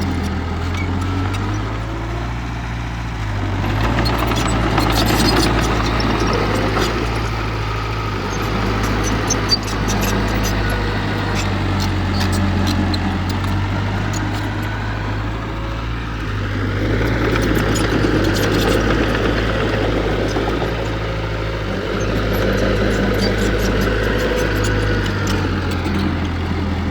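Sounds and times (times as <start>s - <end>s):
heavy machinery diesel engine: 0.0s - 26.9s.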